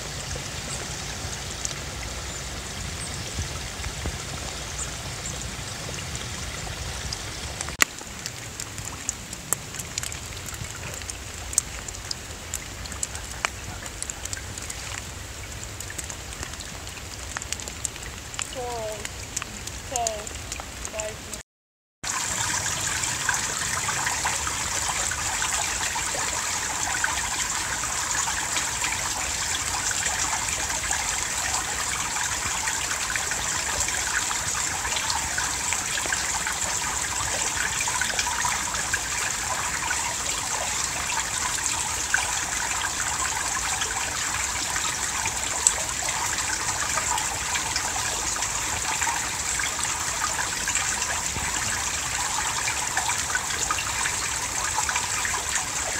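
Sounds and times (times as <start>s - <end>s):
forest stream trickling: 0.0s - 21.4s, 22.0s - 55.9s.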